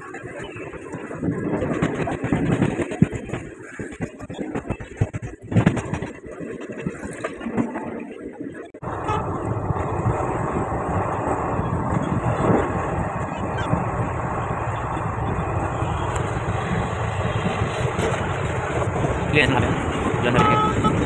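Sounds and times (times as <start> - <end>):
train running at speed: 0.0 - 21.0
wind on microphone: 0.0 - 21.0.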